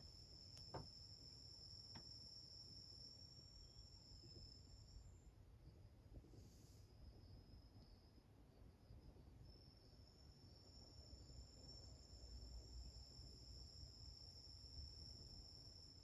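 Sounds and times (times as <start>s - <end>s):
high-pitched insect trill: 0.0s - 6.0s, 6.6s - 16.0s.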